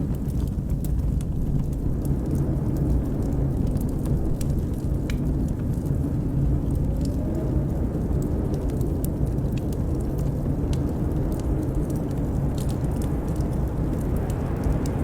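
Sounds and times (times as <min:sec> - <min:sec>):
blizzard wind rumbling: 0:00.0 - 0:15.0
wood fire crackling: 0:00.0 - 0:15.0.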